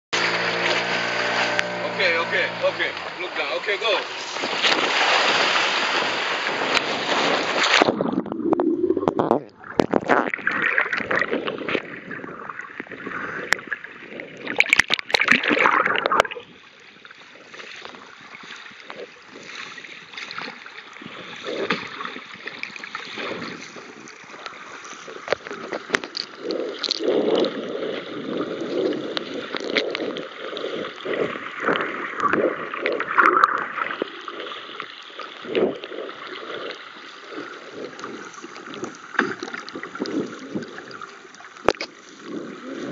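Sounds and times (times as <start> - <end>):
water splashing and rushing: 0.0 - 42.9
underwater gurgling and bubbling: 0.2 - 42.9.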